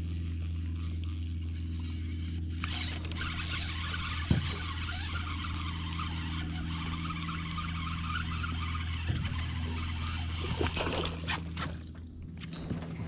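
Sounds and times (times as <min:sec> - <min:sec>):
fishing reel cranking: 0:00.0 - 0:11.6
boat motor humming: 0:00.0 - 0:13.0.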